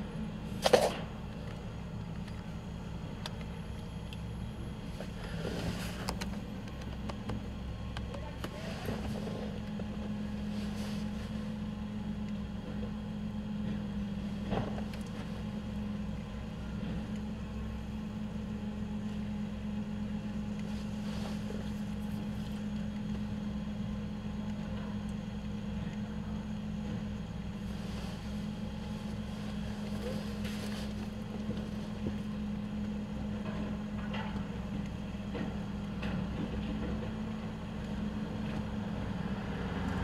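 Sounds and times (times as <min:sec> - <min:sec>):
garbage truck packer droning: 0:00.0 - 0:40.0.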